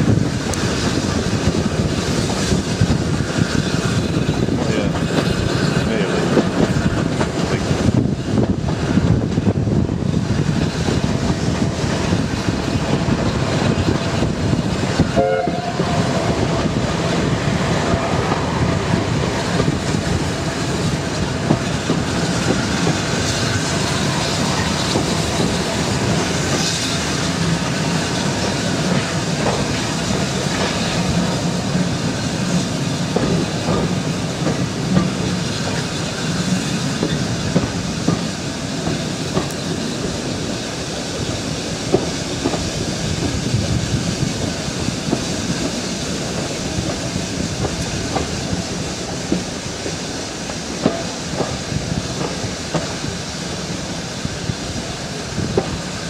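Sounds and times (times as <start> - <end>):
train rumble inside coach: 0.0 - 56.0
wheels clacking over rail joints: 0.0 - 56.0.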